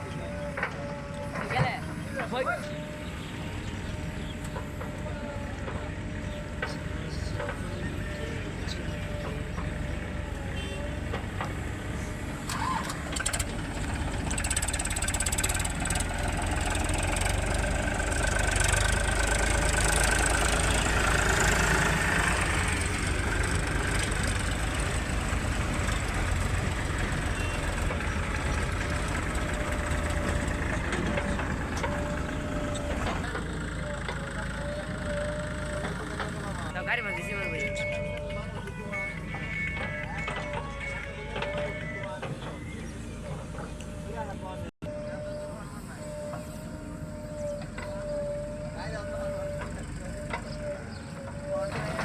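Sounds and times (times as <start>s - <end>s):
heavy machinery engines running: 0.0s - 52.0s.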